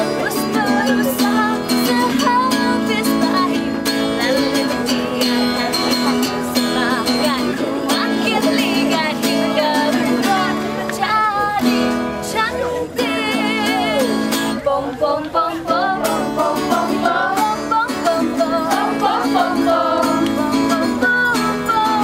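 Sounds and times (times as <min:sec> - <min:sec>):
person singing with vibrato: 0:00.0 - 0:22.0
plucked guitar: 0:00.0 - 0:22.0.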